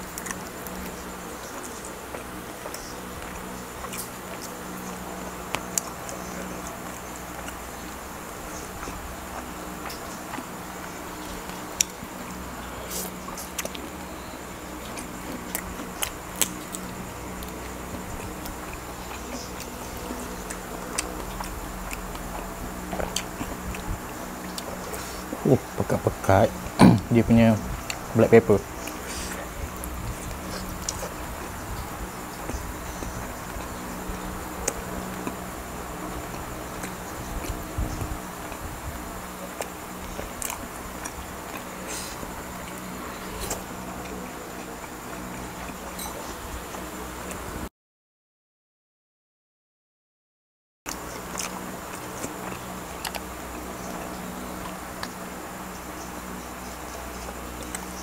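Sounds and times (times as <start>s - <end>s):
chewing close to microphone: 0.0s - 47.4s, 50.9s - 58.0s
steady low hum: 0.0s - 47.7s, 50.9s - 58.0s.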